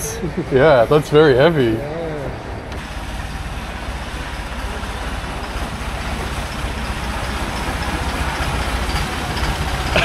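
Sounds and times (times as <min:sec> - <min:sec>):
boat engine throbbing: 0:00.0 - 0:10.0.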